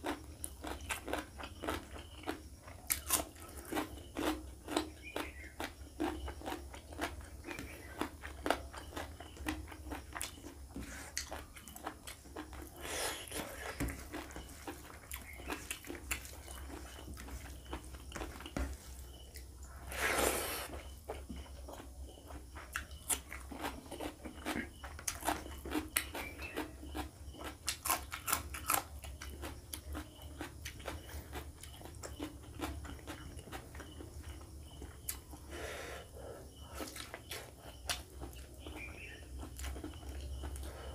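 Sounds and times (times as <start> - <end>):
wet chewing clicks and smacks: 0.0 - 19.5, 21.1 - 35.5, 36.8 - 40.8.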